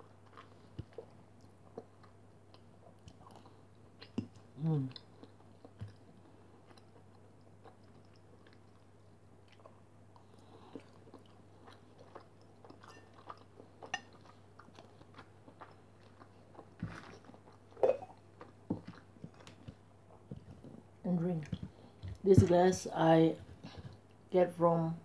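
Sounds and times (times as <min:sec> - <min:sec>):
person chewing: 0:00.0 - 0:20.8.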